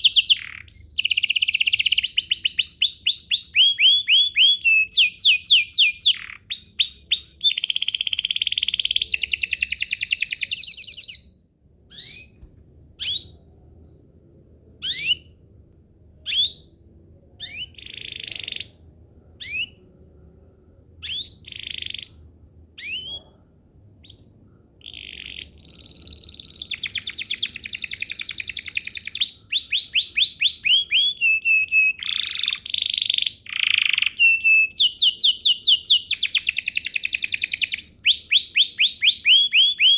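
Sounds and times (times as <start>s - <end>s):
canary singing trills and chirps: 0.0s - 13.5s, 14.8s - 15.4s, 16.2s - 16.8s, 17.4s - 19.9s, 21.0s - 23.4s, 24.0s - 39.9s.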